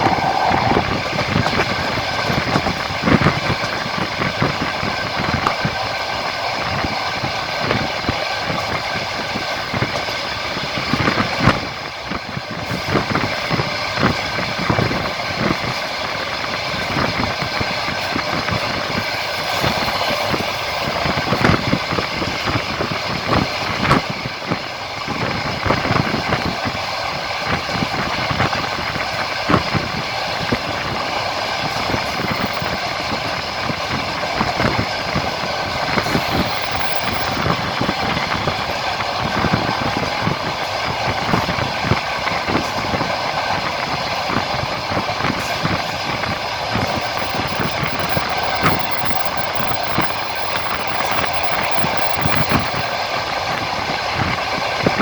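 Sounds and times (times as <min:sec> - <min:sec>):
train rolling rumble: 0:00.0 - 0:55.0
train wheels clattering on rails: 0:00.0 - 0:55.0.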